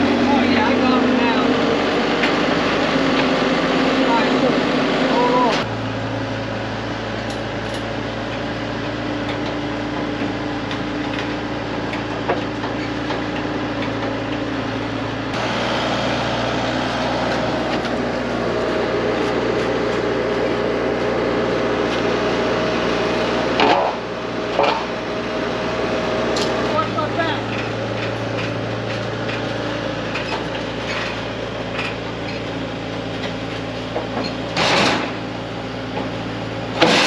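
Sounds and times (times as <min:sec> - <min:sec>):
skid loader engine running: 0:00.0 - 0:37.0.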